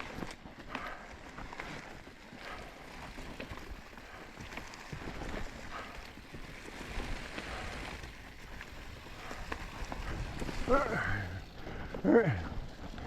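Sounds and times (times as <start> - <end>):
bike clicks and rattles: 0.0 - 13.0
bike tyres rolling on dirt: 0.0 - 13.0.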